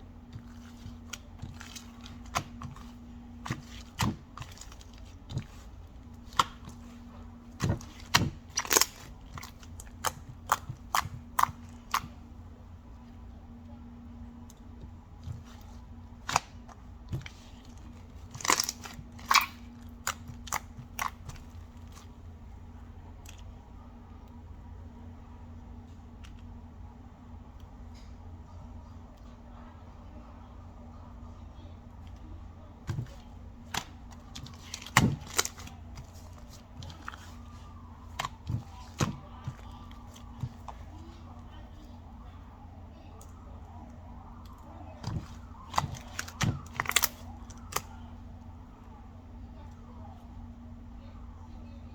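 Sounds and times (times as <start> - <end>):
crinkling handling noises: 0.0 - 23.6, 32.2 - 50.5
faint steady hum: 0.0 - 51.9.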